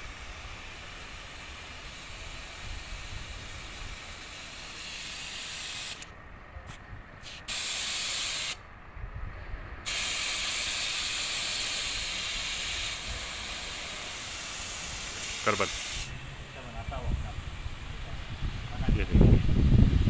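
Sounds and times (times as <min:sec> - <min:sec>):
high-pressure water spray hissing: 0:00.0 - 0:06.1, 0:07.2 - 0:08.6, 0:09.9 - 0:20.0.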